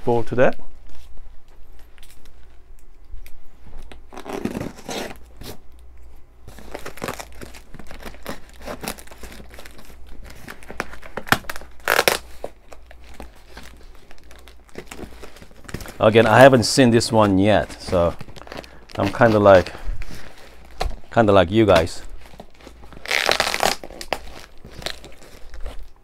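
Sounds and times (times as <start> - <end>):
plastic wrap tearing and crinkling: 3.8 - 5.7, 6.4 - 26.0.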